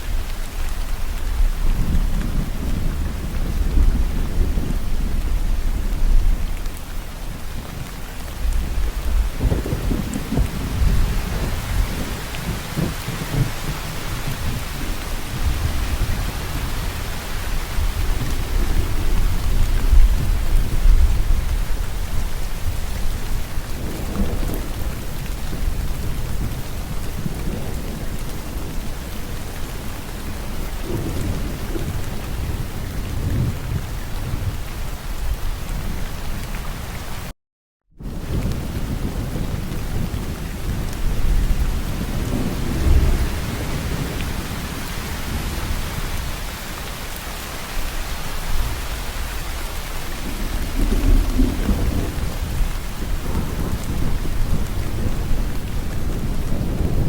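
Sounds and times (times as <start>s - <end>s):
heavy rainfall: 0.0s - 37.3s, 38.0s - 57.0s
low rolling thunder: 1.0s - 36.4s, 38.0s - 57.0s.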